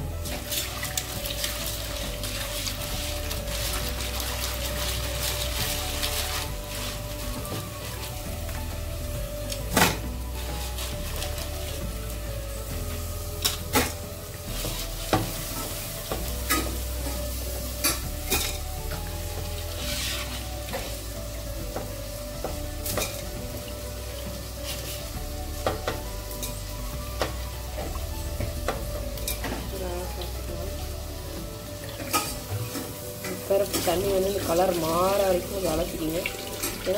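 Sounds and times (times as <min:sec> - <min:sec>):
water splashing in pot: 0:00.0 - 0:36.9.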